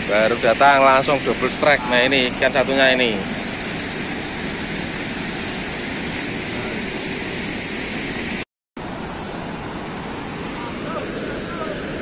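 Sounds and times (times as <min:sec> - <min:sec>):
floodwater rushing through weir gates: 0:00.0 - 0:12.0.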